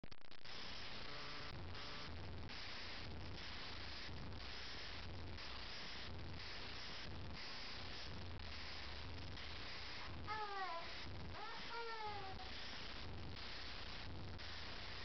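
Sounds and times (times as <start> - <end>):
steady hiss: 0.5 - 15.0.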